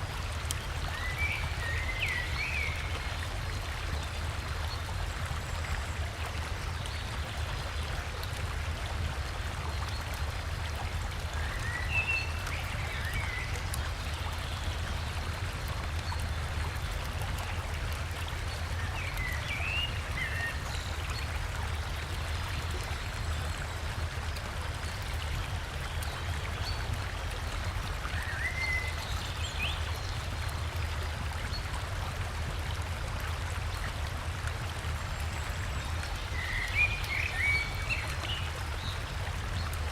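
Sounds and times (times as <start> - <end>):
river water over waterfall: 0.0 - 39.9.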